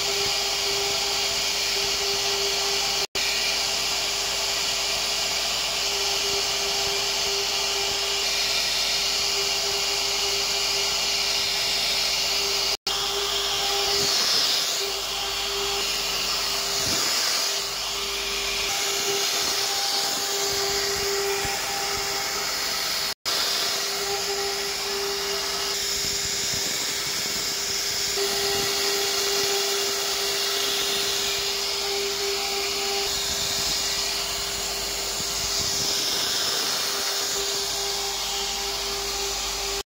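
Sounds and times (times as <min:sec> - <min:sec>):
router bit cutting wood: 0:00.0 - 0:39.9
router spindle whining: 0:00.0 - 0:39.9.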